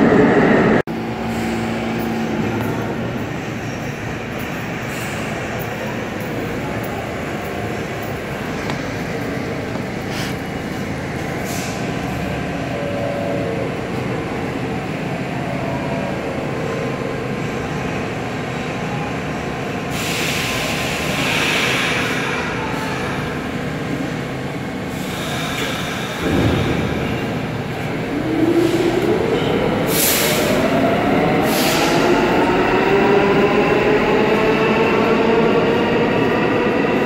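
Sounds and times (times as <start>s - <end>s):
subway train wheels rumbling: 0.0s - 37.0s.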